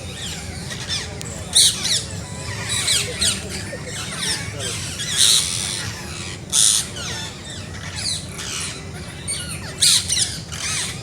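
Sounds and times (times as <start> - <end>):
parrots chirping and squawking: 0.2 - 11.0.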